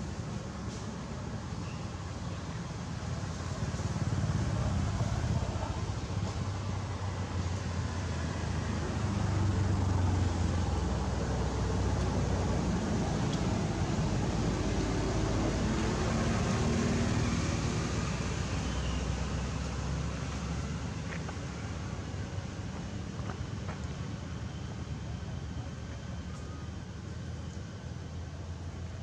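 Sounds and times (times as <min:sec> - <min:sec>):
distant vehicle engines humming: 0:00.0 - 0:29.0.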